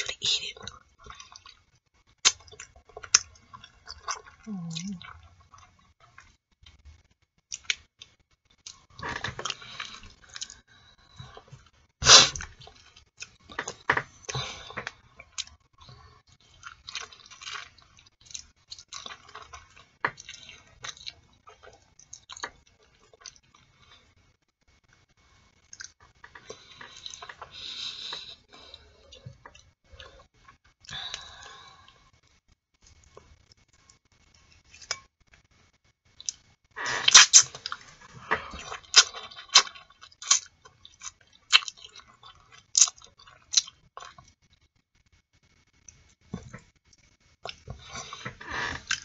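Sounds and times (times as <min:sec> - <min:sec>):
chewing: 0:00.6 - 0:11.7, 0:12.3 - 0:24.1, 0:25.6 - 0:32.2, 0:36.2 - 0:44.4, 0:45.8 - 0:49.0.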